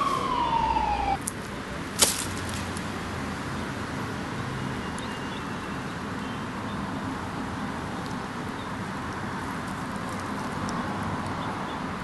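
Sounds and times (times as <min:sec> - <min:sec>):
low outdoor rush: 0:00.0 - 0:12.0.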